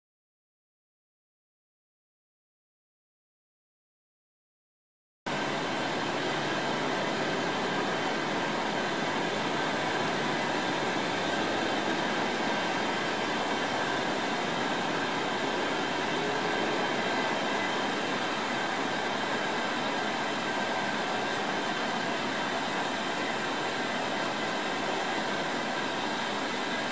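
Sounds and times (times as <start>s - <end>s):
train hiss and hum: 5.3s - 26.9s.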